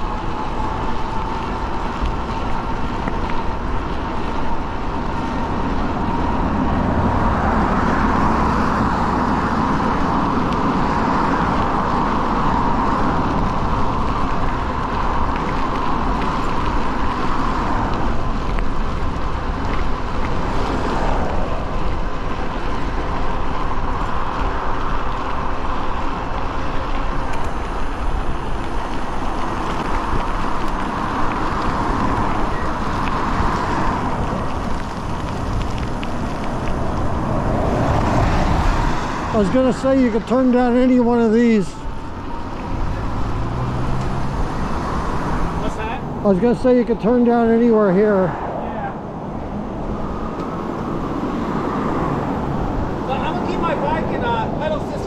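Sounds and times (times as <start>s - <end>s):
tyre noise on wet pavement: 0.0s - 55.0s
wind rush on microphone: 0.0s - 55.0s.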